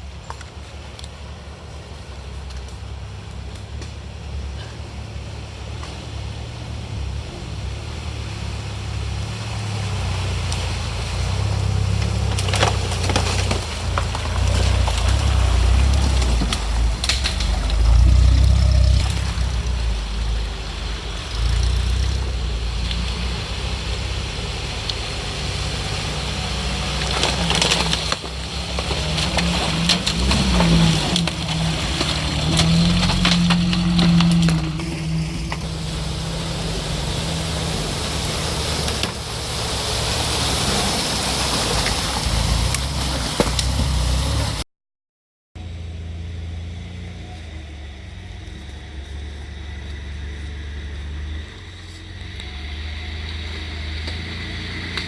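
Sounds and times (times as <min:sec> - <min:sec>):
off-road vehicle engine revving: 0:00.0 - 0:44.6, 0:45.6 - 0:55.0
terrain rustling against vehicle body: 0:00.0 - 0:44.6, 0:46.6 - 0:55.0.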